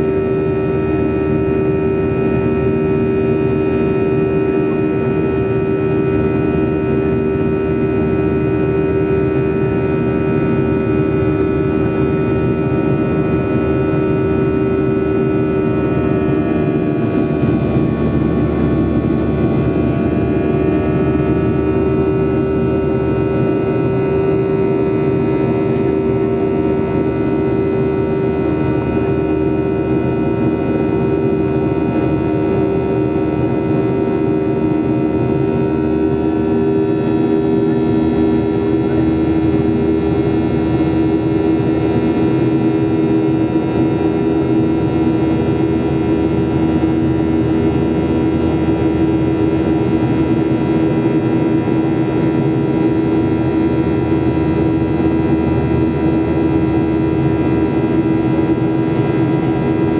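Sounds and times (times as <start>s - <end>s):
jet engines from inside cabin: 0.0s - 59.9s.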